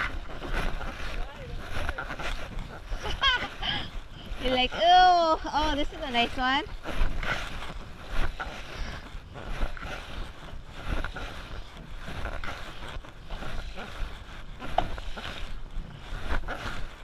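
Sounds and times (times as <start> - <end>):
water washing around canoe: 0.0 - 17.0
wind buffeting microphone: 0.0 - 17.0.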